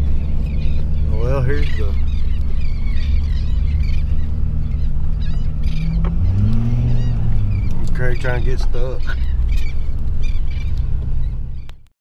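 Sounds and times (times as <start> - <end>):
boat motor running: 0.0 - 11.7
wind rumble on microphone: 0.0 - 11.9.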